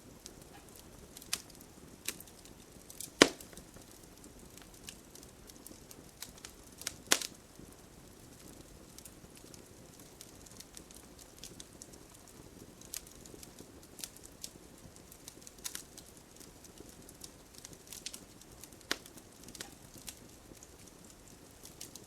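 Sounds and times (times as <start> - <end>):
low steady fire hiss: 0.0 - 22.0
campfire crackling and popping: 0.1 - 22.0.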